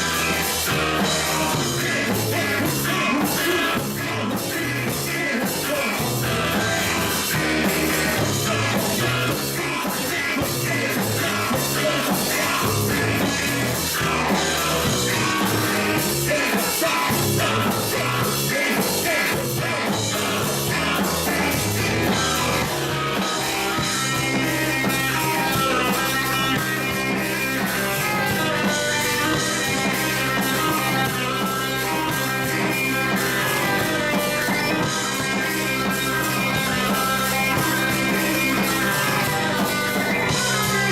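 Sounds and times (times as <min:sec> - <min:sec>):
drum kit beat: 0:00.0 - 0:40.9
guitar: 0:00.0 - 0:40.9
rock band playing: 0:00.0 - 0:40.9.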